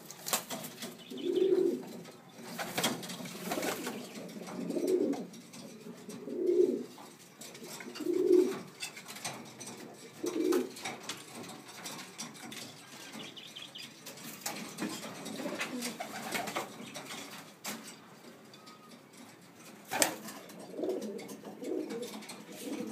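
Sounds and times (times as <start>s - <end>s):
pigeons cooing: 0.7s - 8.8s, 9.6s - 17.3s, 19.9s - 22.9s.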